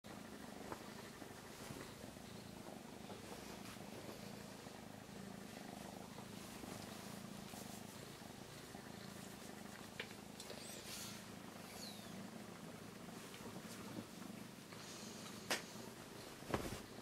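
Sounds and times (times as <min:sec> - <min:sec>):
cat purring: 0:00.1 - 0:17.0.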